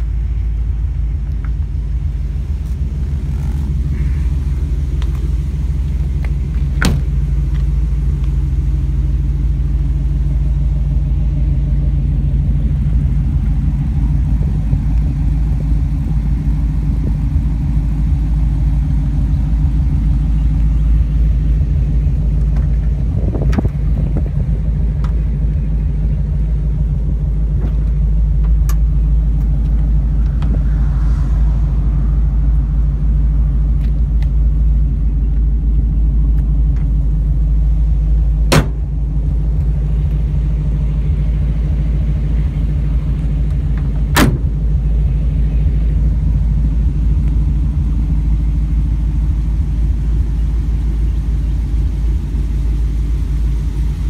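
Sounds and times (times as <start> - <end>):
engine idling rumble: 0.0 - 54.0.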